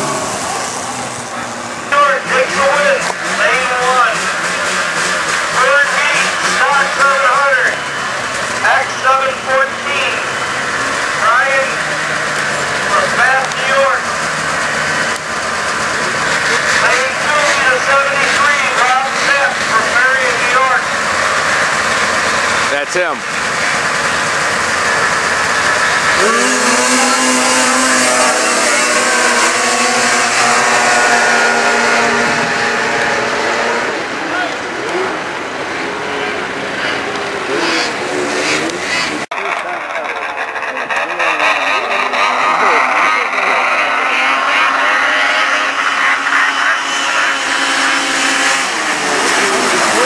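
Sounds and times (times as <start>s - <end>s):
snowmobile engines revving: 0.0s - 50.0s.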